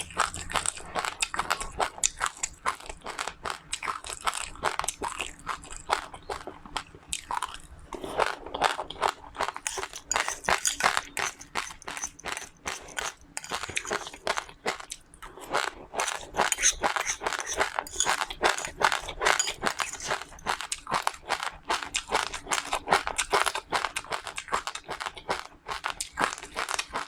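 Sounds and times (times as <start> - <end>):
person chewing crunchy seeds: 0.0 - 27.0.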